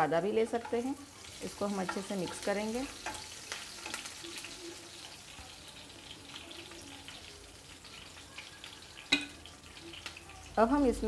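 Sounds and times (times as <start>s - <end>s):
spices frying in hot oil: 0.0s - 11.0s.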